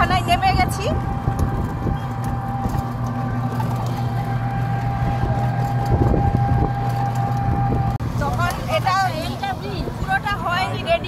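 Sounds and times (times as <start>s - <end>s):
car engine hum from inside: 0.0s - 11.0s.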